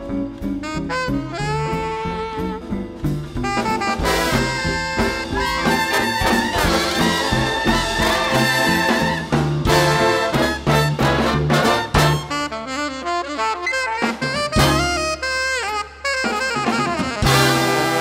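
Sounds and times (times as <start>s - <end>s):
big band swing jazz: 0.0s - 18.0s
trumpets and trombones playing: 3.4s - 18.0s.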